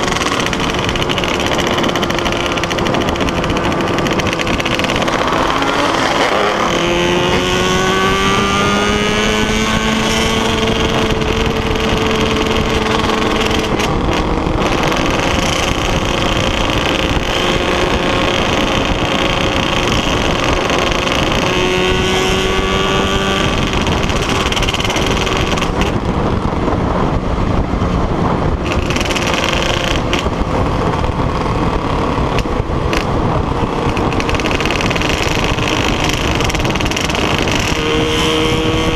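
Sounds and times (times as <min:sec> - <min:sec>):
loud rushing noise: 0:00.0 - 0:38.9
two-stroke motorcycle engines revving: 0:00.0 - 0:38.9.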